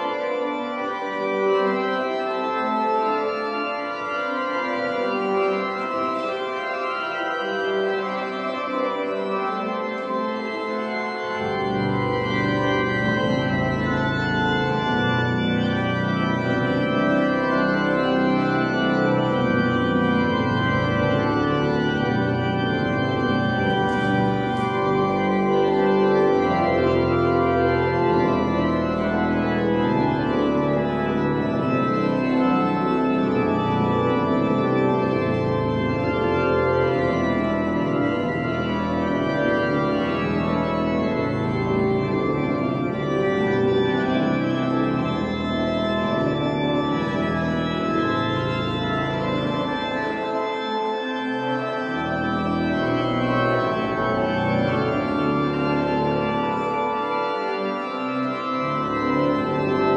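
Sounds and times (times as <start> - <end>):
deep organ pedal bass: 0.0 - 59.9
pipe organ playing chords: 0.0 - 59.9.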